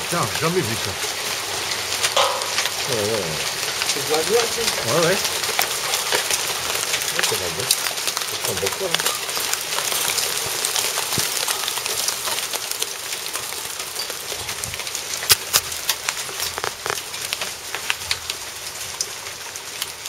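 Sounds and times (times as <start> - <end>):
hailstones ticking: 0.0 - 20.0
heavy rain on concrete: 0.0 - 20.0.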